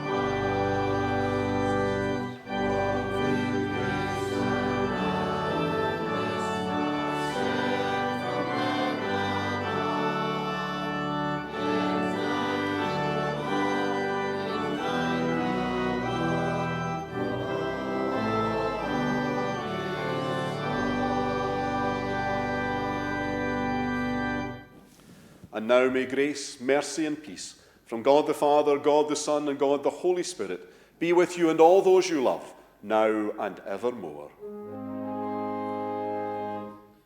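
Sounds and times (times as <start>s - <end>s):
church organ chords: 0.0s - 24.9s, 31.2s - 37.0s.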